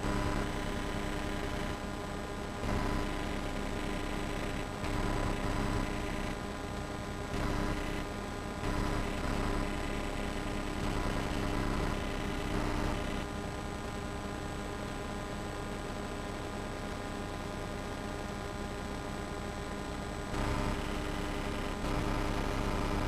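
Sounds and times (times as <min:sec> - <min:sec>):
tape hiss and hum: 0:00.0 - 0:23.0.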